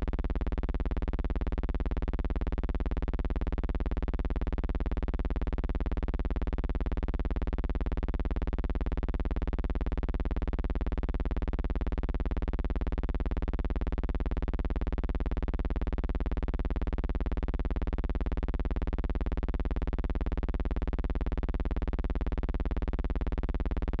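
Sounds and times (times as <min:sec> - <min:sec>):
low buzzing hum: 0:00.0 - 0:24.0.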